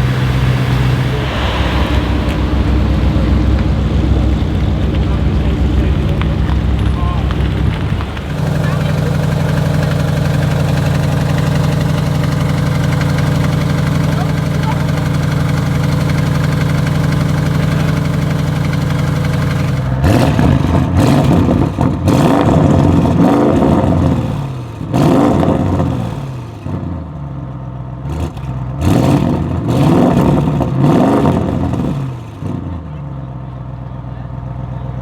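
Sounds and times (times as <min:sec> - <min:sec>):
exhaust cracks: 0:00.0 - 0:33.0
car engine idling and revving: 0:00.0 - 0:35.0.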